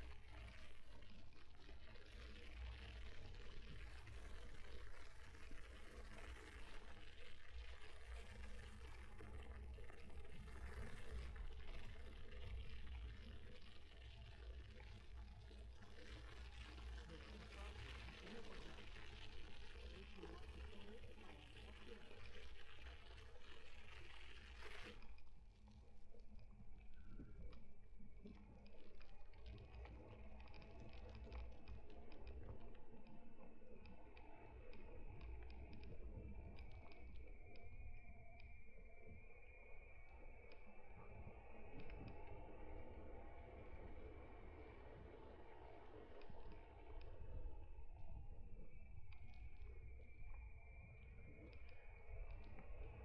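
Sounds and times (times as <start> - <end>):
faint high whine: 0.0 - 53.0.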